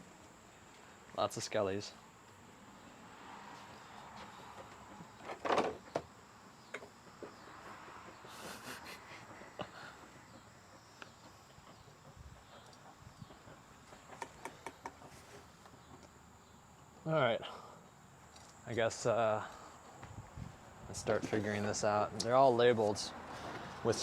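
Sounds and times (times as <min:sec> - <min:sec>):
faint outdoor background: 0:00.0 - 0:24.0.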